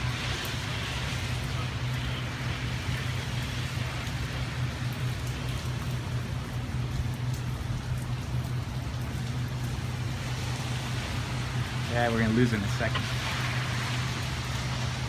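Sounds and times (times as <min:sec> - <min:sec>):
light rain hissing: 0:00.0 - 0:15.0
low steady hum: 0:00.0 - 0:15.0.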